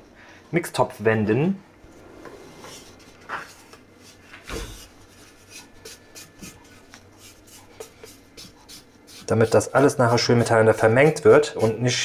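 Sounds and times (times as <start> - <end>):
spatula scraping steel bowl: 2.2 - 12.0.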